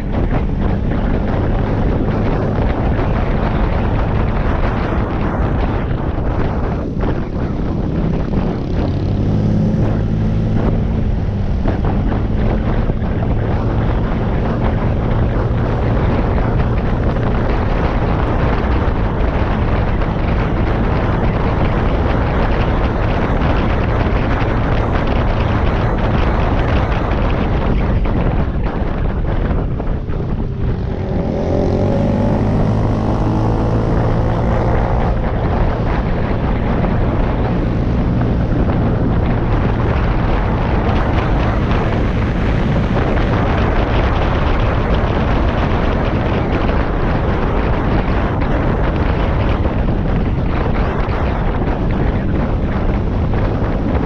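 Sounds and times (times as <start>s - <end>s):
wind noise on microphone: 0.0s - 54.0s
scooter engine running: 6.2s - 51.2s.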